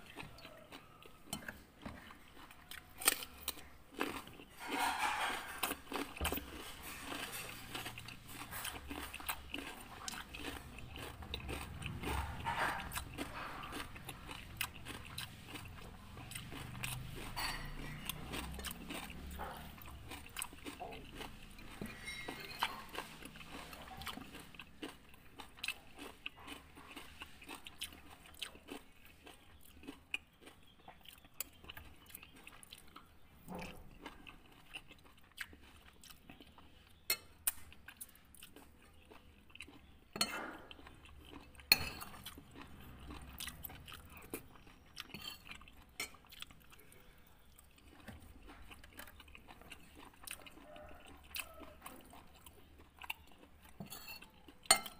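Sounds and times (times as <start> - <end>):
chewing with wet mouth smacks: 0.0 - 54.9.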